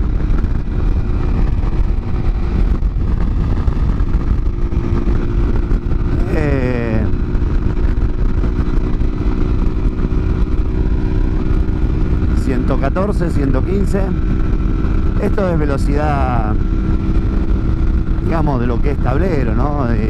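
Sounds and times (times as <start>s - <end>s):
motorcycle engine running: 0.0s - 20.0s
wind buffeting a microphone: 0.0s - 20.0s.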